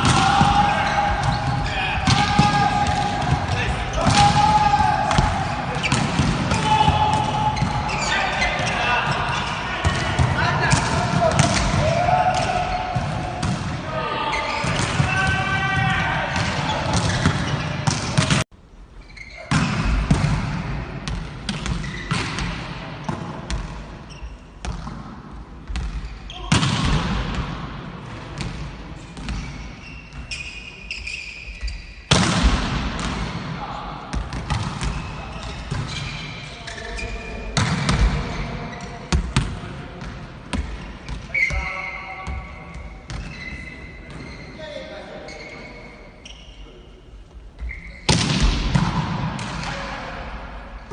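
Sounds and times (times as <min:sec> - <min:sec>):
volleyballs hit and bouncing: 0:00.0 - 0:13.9, 0:14.5 - 0:18.5, 0:19.4 - 0:30.4, 0:31.6 - 0:36.4, 0:37.4 - 0:44.4, 0:47.6 - 0:50.0.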